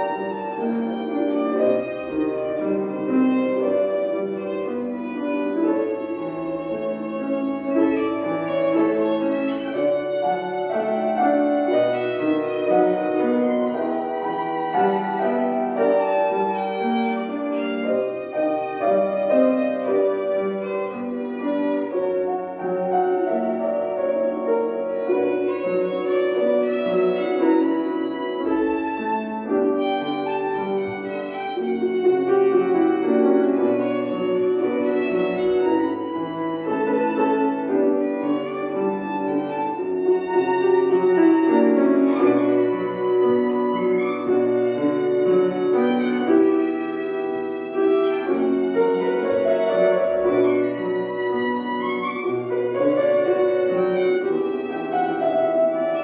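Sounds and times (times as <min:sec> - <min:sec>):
piano accompaniment: 0:00.0 - 0:56.0
violin melody: 0:00.0 - 0:56.0.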